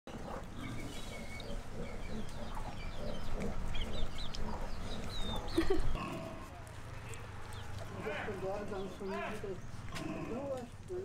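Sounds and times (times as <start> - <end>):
chickens clucking: 0.1 - 10.6
small birds chirping: 0.1 - 11.0.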